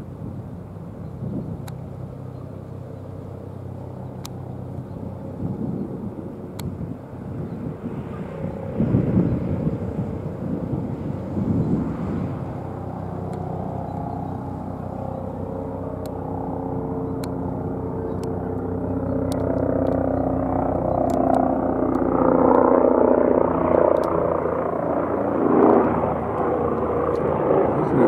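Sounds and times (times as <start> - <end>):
helicopter flying overhead: 0.0 - 28.0.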